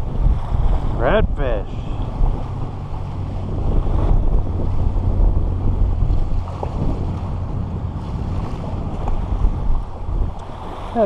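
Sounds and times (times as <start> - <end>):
water lapping at shore: 0.0 - 11.0
wind buffeting microphone: 0.0 - 11.0.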